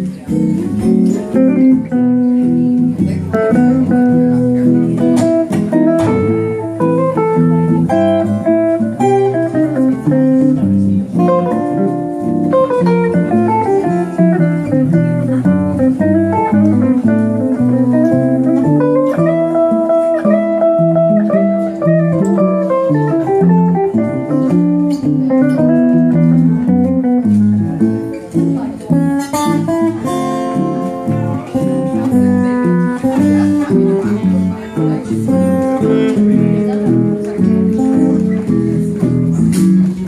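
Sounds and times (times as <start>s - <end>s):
acoustic guitar playing: 0.0s - 40.0s
electric guitar playing: 0.0s - 40.0s.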